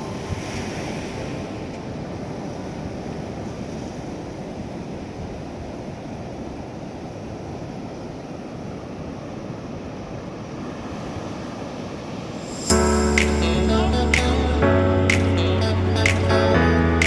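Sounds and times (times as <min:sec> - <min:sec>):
ocean surf on a beach: 0:00.0 - 0:17.0.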